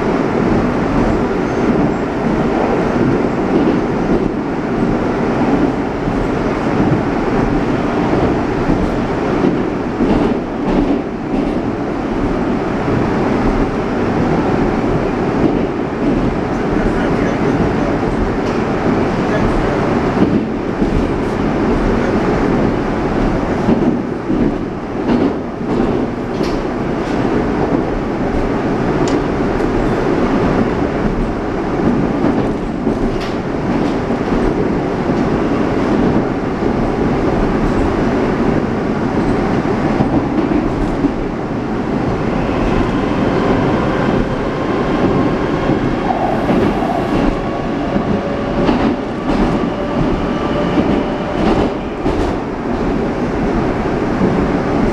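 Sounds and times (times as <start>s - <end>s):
train rumble: 0.0s - 54.9s.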